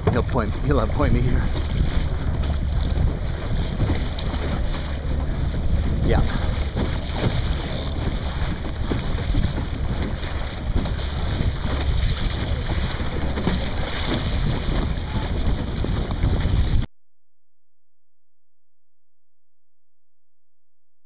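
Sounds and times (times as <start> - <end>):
water rushing along hull: 0.0 - 16.9
wind buffeting microphone: 0.0 - 16.9.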